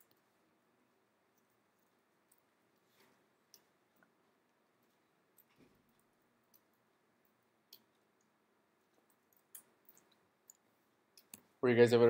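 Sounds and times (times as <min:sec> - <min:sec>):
faint clicks: 0:01.3 - 0:11.5.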